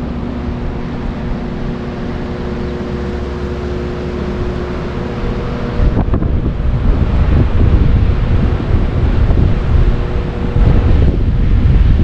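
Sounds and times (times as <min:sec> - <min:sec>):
low mechanical hum: 0:00.0 - 0:12.0
wind buffeting microphone: 0:00.0 - 0:12.0.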